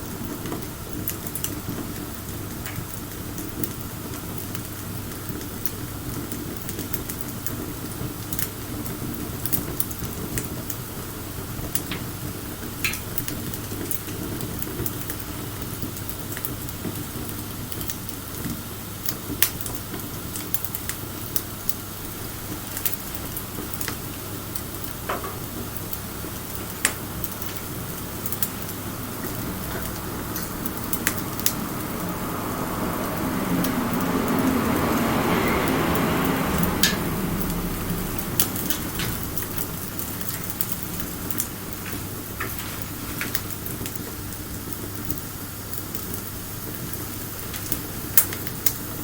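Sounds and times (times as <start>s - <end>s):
bonfire crackling and hissing: 0.0s - 49.0s.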